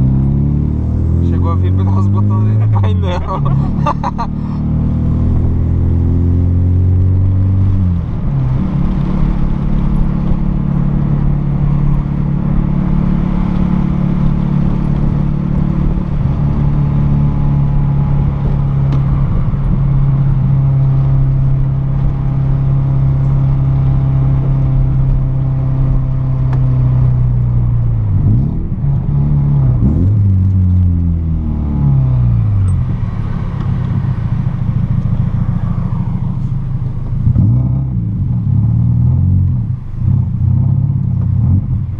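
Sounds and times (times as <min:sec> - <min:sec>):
car engine droning through exhaust: 0:00.0 - 0:41.9.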